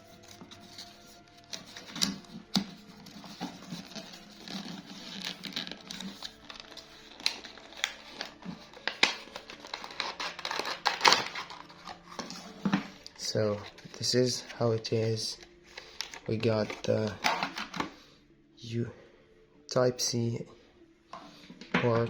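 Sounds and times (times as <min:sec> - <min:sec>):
packaging rustling and crinkling: 0:00.0 - 0:18.0
quiet background music: 0:00.0 - 0:22.0.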